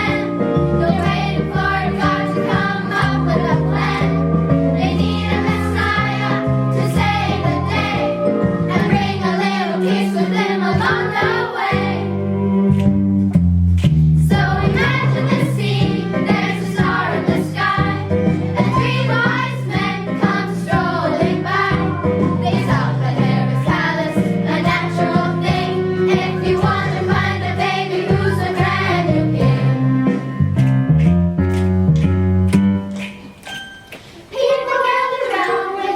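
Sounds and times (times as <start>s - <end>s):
children's song with singing voices: 0.0s - 12.3s, 14.2s - 30.4s, 34.0s - 35.9s.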